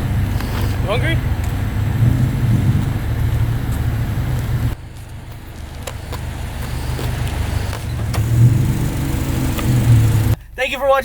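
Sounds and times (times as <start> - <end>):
car engine droning: 0.0 - 10.6
road noise: 0.0 - 11.0.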